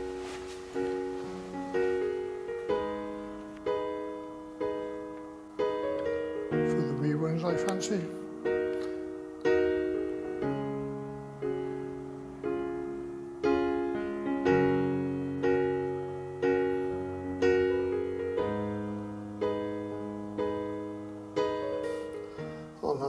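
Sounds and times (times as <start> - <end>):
slow piano chords: 0.0 - 23.0.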